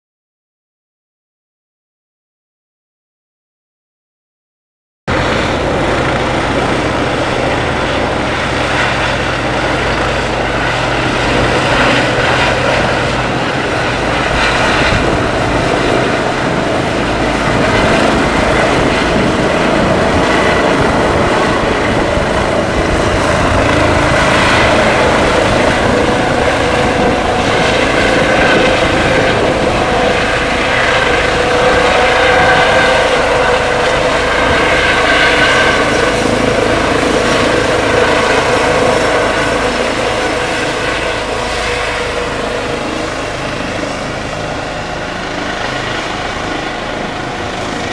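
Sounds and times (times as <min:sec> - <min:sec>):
helicopter turbines and rotors: 0:05.1 - 0:47.9.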